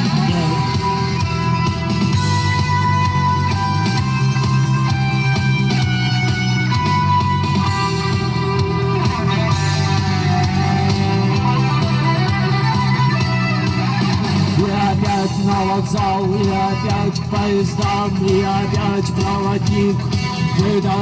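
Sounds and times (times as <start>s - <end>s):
bass line: 0.0s - 21.0s
rock guitars playing: 0.0s - 21.0s.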